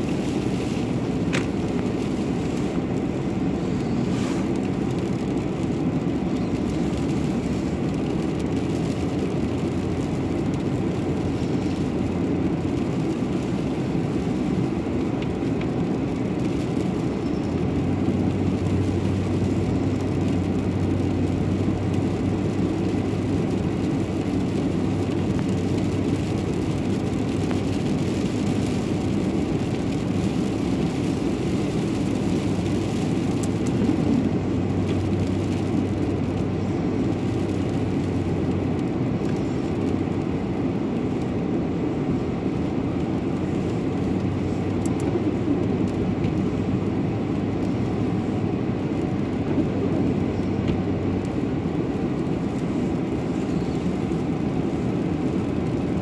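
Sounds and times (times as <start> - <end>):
tyre and road noise: 0.0 - 56.0
vehicle engine running: 0.0 - 56.0.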